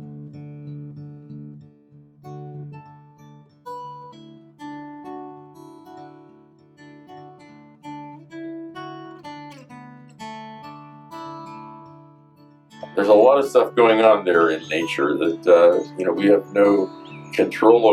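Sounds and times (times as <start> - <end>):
acoustic guitar melody: 0.0 - 17.9.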